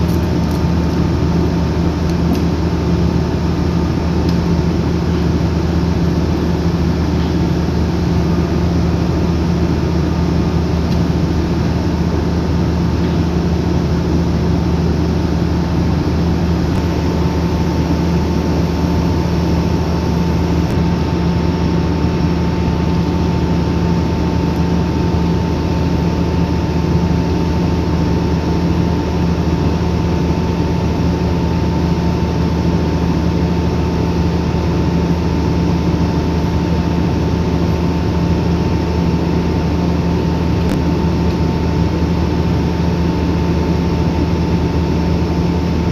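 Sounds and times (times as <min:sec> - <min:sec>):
thin steady whine: 0:00.0 - 0:45.9.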